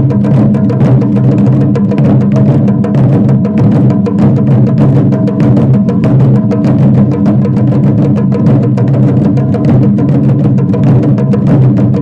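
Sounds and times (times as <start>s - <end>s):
taiko drums beating fast: 0.0s - 12.0s.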